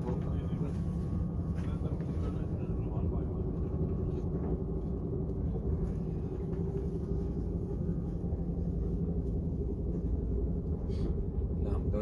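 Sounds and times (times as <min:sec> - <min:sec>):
faint steady hum: 0:00.0 - 0:12.0
train rumble inside carriage: 0:00.0 - 0:12.0.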